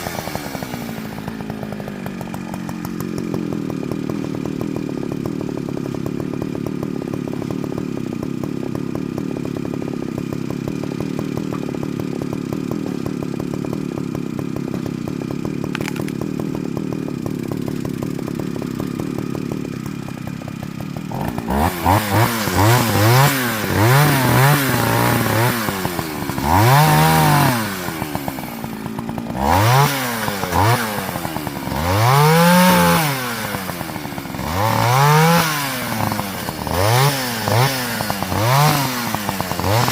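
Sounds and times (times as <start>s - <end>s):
chainsaw running and revving: 0.0s - 39.9s.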